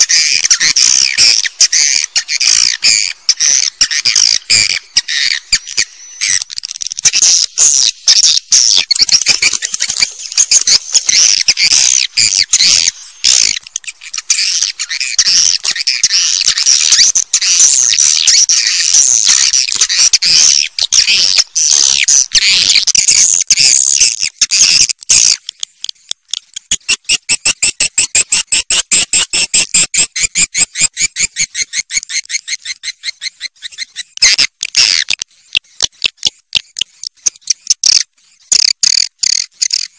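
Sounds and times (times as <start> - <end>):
rapid sharp chirping pulses: 0.0 - 24.8, 26.6 - 35.8.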